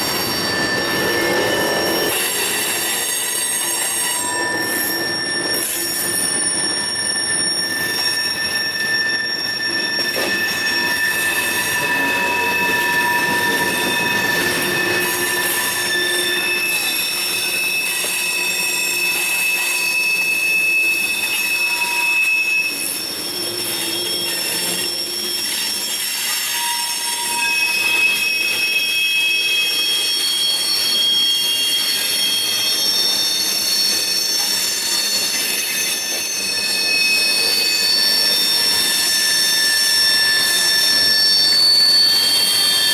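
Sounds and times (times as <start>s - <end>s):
train wheel squeal: 0.0s - 42.9s.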